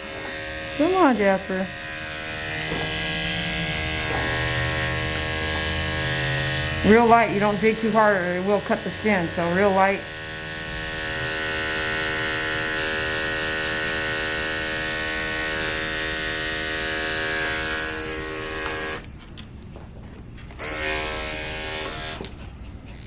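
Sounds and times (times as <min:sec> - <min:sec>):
electric clipper humming: 0:00.0 - 0:19.1, 0:20.5 - 0:22.4.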